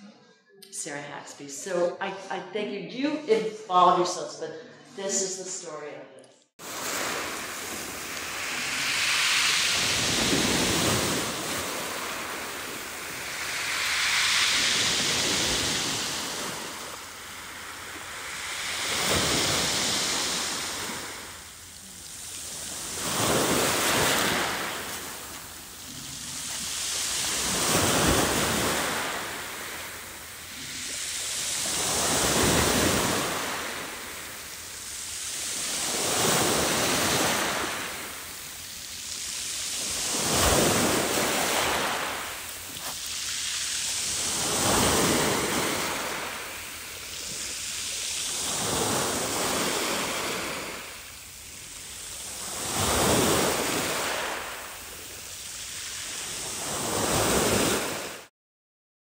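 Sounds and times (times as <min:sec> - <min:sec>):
ocean waves washing ashore: 0:06.6 - 0:58.3.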